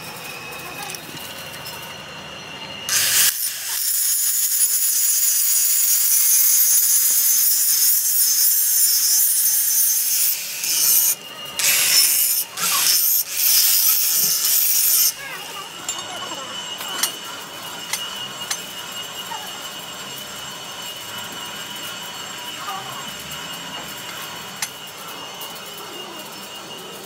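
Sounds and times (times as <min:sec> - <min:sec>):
angle grinder grinding steel: 0:00.0 - 0:27.0.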